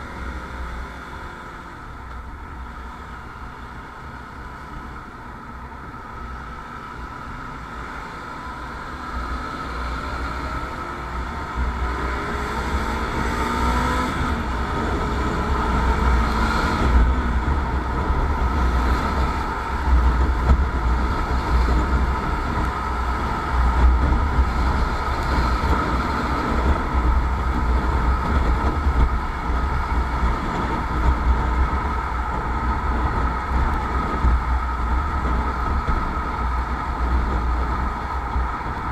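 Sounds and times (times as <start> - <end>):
motorcycle engine accelerating: 0.0 - 38.9
wind rumble on microphone: 0.0 - 38.9.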